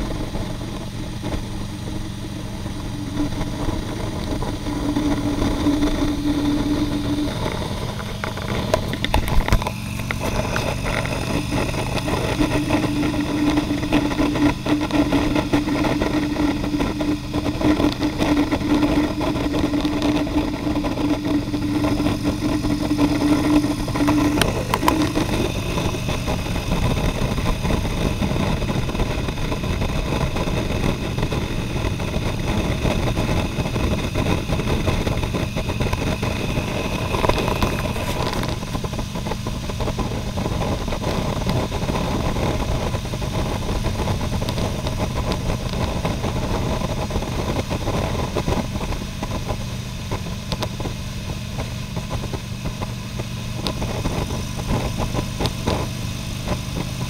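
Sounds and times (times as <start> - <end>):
motorcycle engine hum: 0.0 - 57.0
wind and road noise: 0.0 - 57.0.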